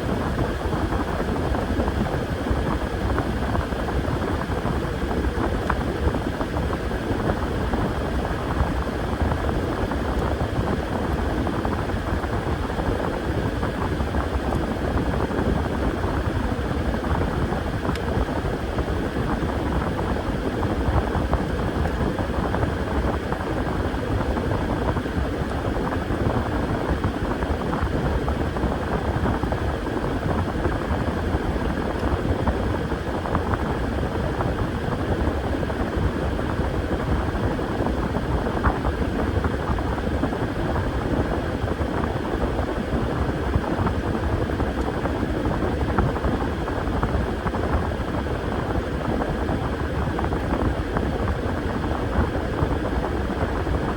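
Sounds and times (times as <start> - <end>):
washing machine running: 0.0 - 53.9.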